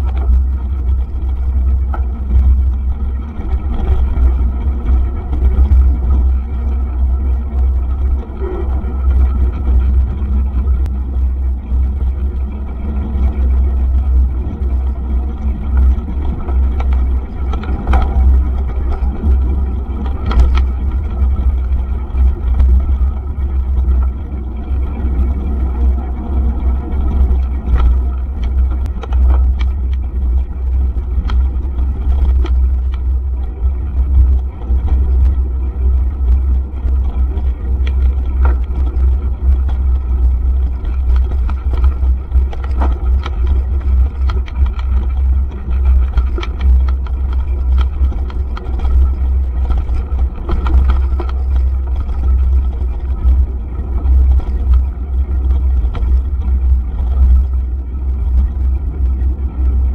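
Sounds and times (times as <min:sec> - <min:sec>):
bike clicks and rattles: 0:00.0 - 0:59.9.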